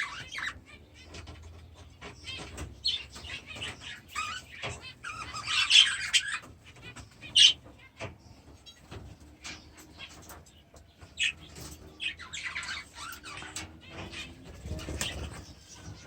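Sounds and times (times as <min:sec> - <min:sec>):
birds chirping and chattering: 0:00.0 - 0:16.0.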